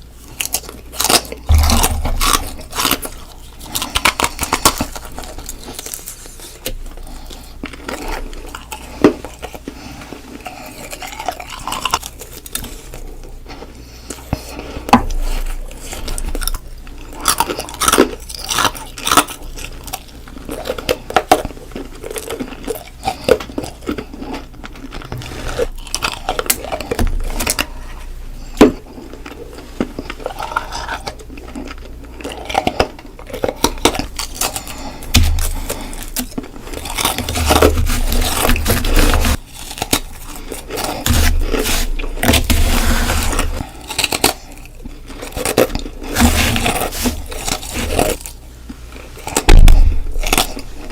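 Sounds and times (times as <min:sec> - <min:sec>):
ice being bitten and crunched: 0:00.2 - 0:13.3, 0:14.1 - 0:27.9, 0:28.6 - 0:50.9.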